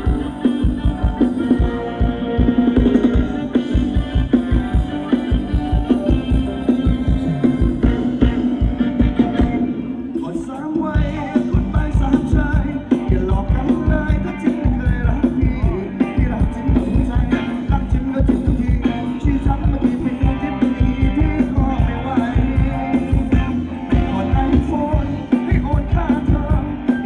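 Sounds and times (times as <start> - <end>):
thumping drum beat: 0.0 - 9.7, 11.0 - 27.0
live band playing dance music: 0.0 - 27.0
person singing: 0.0 - 27.0.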